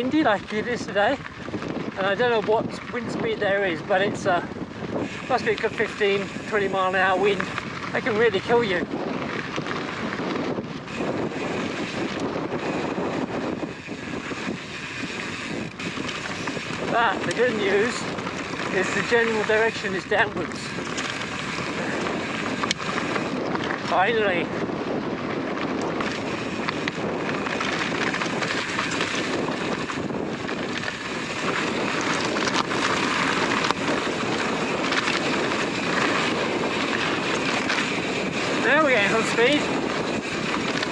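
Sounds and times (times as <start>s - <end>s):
mountain bike rolling on dirt: 0.0s - 40.9s
wind buffeting microphone: 0.0s - 40.9s.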